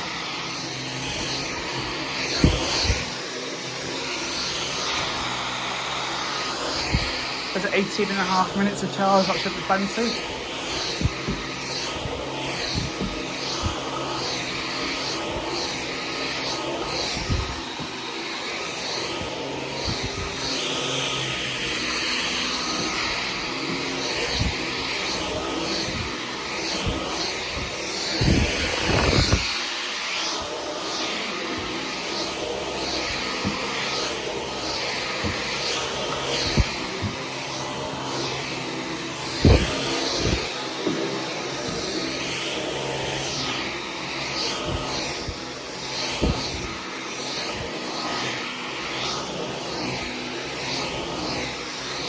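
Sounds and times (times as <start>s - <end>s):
vacuum suction rushing: 0.0s - 30.5s, 31.2s - 38.4s, 39.1s - 48.1s
vacuum cleaner motor whine: 0.0s - 52.0s.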